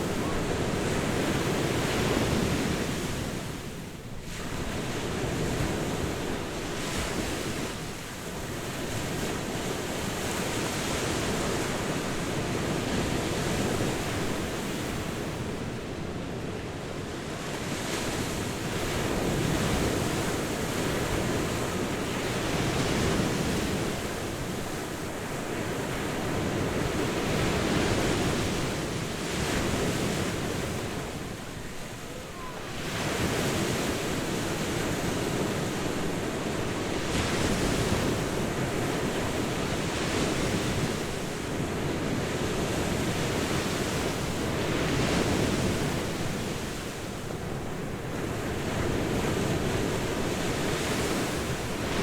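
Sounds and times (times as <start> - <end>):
ocean surf washing onto beach: 0.0 - 52.0.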